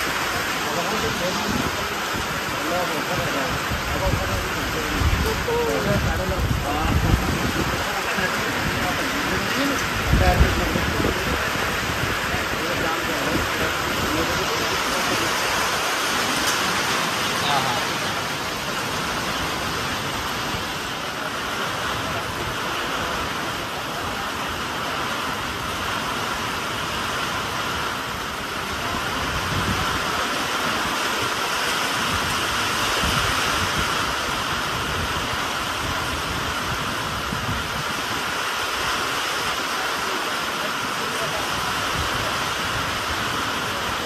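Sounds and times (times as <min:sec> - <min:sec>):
heavy rain on road: 0:00.0 - 0:44.0.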